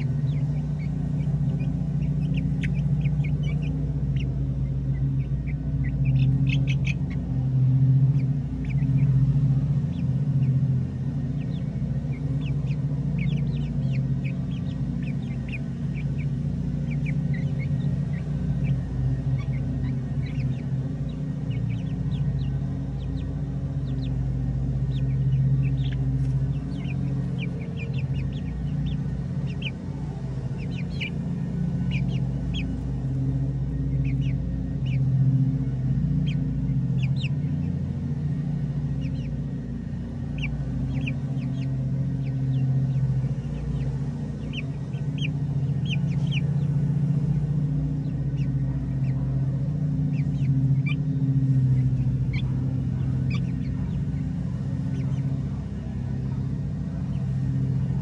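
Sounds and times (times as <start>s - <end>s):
chicks peeping: 0.0s - 58.0s
low mechanical hum: 0.0s - 58.0s.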